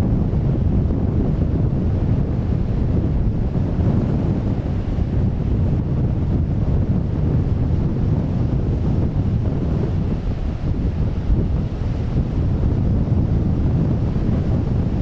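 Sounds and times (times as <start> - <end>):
waves in rough sea: 0.0 - 15.0
wind buffeting microphone: 0.0 - 15.0.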